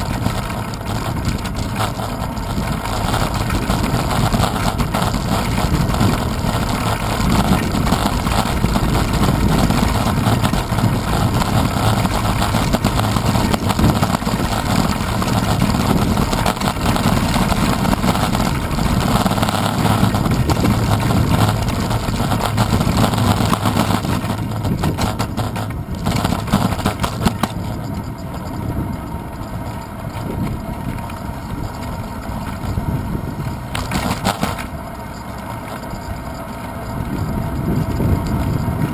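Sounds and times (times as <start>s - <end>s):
bicycle rumbling over paving stones: 0.0s - 38.9s
handlebar rattle: 0.0s - 38.9s.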